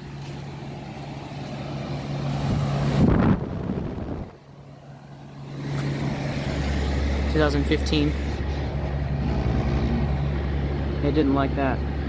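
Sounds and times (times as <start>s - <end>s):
compressor hum: 0.0s - 12.0s
condenser fan air rush: 0.0s - 12.0s.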